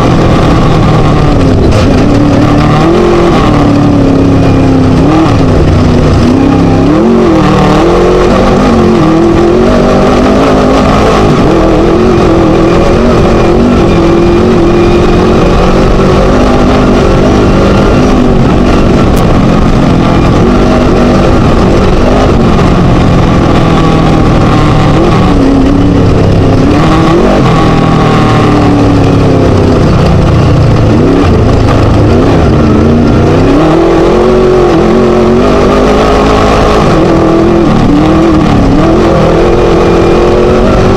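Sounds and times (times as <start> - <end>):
buggy engine running hard: 0.0 - 40.9.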